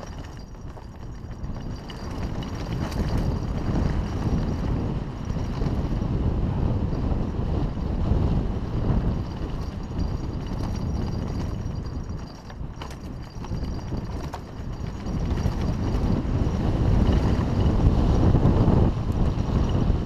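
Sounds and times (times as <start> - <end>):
bike knocks and rattles: 0.0 - 20.0
bike tyre noise on dirt: 0.0 - 20.0
wind rushing over microphone: 0.0 - 20.0.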